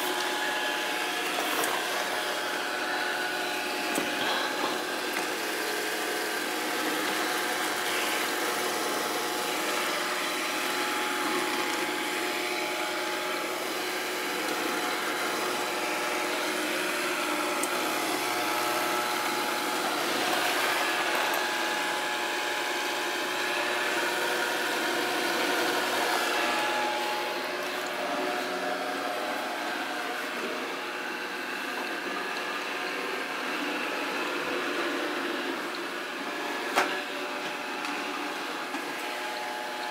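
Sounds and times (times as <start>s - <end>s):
robot vacuum cleaner whirring: 0.0s - 39.9s.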